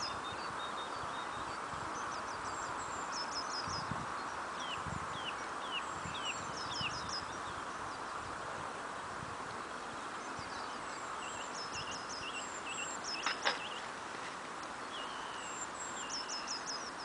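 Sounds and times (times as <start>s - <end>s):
small birds chirping: 0.0s - 8.6s, 9.4s - 17.0s
background hiss: 0.0s - 17.0s.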